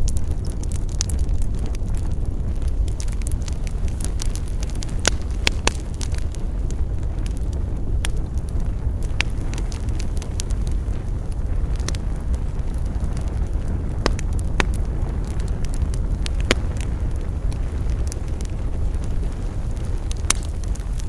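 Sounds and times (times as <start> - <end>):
campfire crackling and popping: 0.0 - 21.0
low rumble: 0.0 - 21.0.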